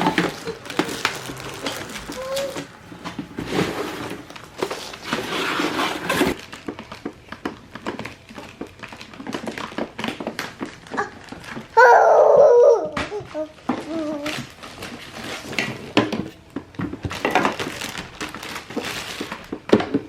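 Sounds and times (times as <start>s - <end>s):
plastic toys clicking and knocking: 0.0s - 5.2s, 6.4s - 20.0s.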